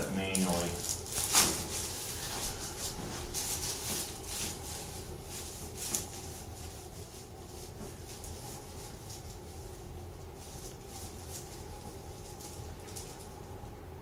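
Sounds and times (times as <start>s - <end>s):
body rustling on treatment table: 0.5s - 13.4s.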